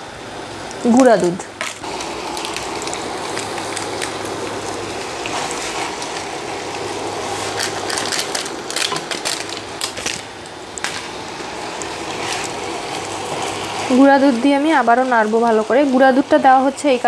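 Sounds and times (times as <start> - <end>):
rice sizzling in a pan: 0.2 - 17.0.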